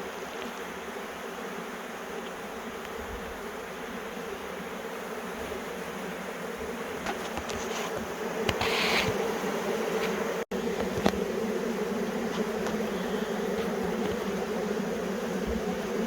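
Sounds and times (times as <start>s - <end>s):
honey bees humming: 0.0s - 16.0s.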